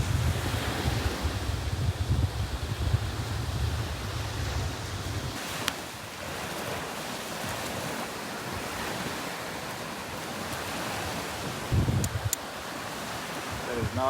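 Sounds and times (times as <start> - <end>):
ocean surf breaking on beach: 0.0 - 14.0
wind buffeting microphone: 0.0 - 14.0.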